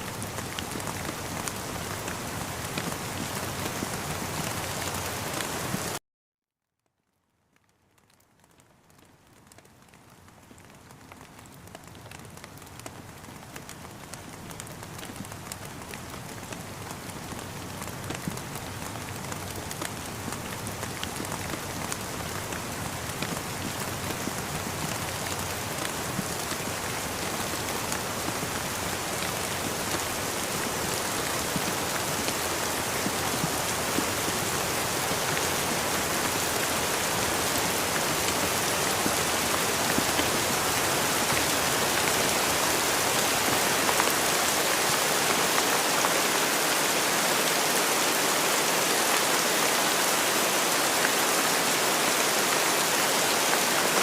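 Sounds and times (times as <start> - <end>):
rain with drop taps: 0.0 - 6.0, 6.8 - 54.0.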